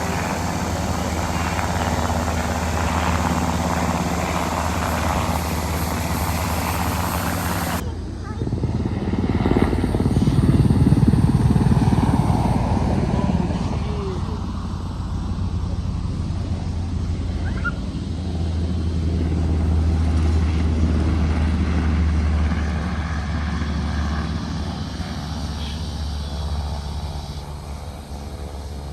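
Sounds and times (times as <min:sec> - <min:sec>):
helicopter engines and rotor: 0:00.0 - 0:28.9.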